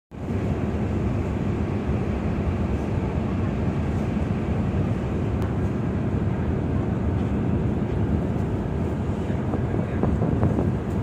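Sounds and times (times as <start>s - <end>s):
low rumble of ferry: 0.1s - 11.0s.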